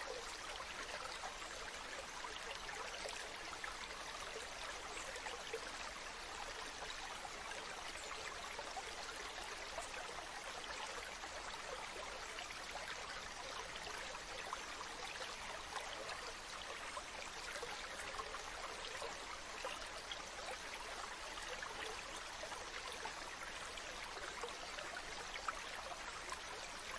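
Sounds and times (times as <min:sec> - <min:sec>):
stream flowing over rocks: 0:00.0 - 0:26.9.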